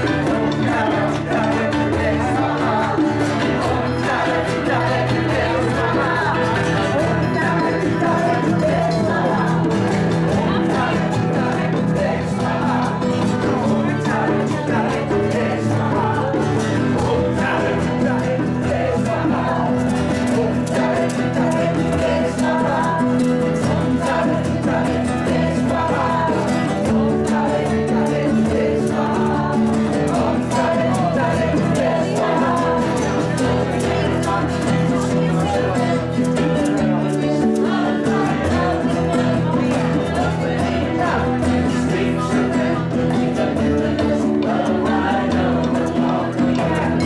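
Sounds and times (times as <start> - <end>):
group of voices singing: 0.0 - 47.0
hand drum: 0.0 - 47.0
strummed acoustic guitars: 0.0 - 47.0.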